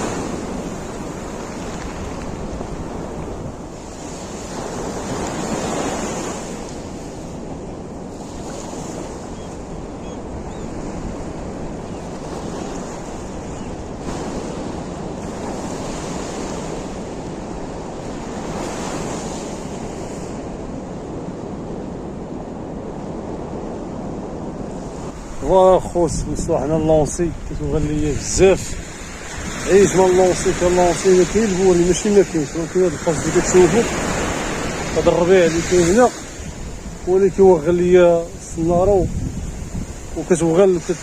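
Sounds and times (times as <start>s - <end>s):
sea surf washing in: 0.0s - 41.0s
wind buffeting microphone: 0.0s - 41.0s.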